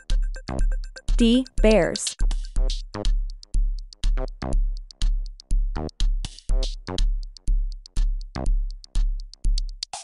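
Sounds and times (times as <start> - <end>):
drum machine kick: 0.0 - 10.0.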